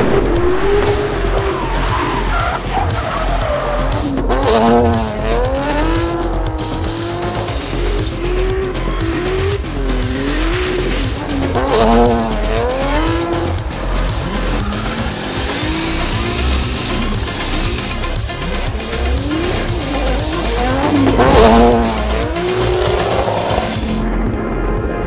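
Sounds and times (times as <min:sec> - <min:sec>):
car engine running: 0:00.0 - 0:24.4
background music with low beat: 0:00.0 - 0:25.0.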